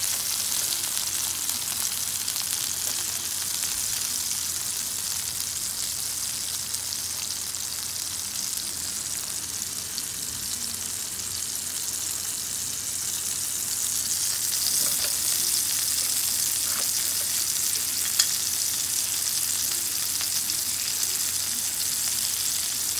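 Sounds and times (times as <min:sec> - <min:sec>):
steak sizzling in hot fat: 0:00.0 - 0:22.9.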